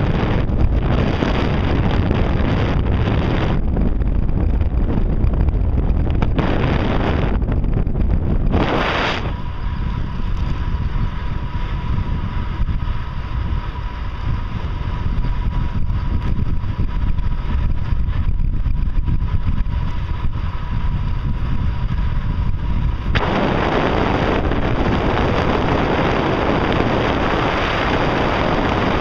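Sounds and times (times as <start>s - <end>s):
faint steady whine: 0.0s - 29.0s
wind rumbling over microphone: 0.0s - 29.0s.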